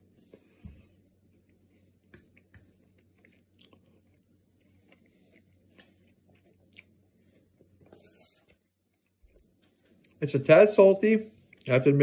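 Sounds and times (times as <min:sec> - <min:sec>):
faint chewing: 0:00.3 - 0:10.2.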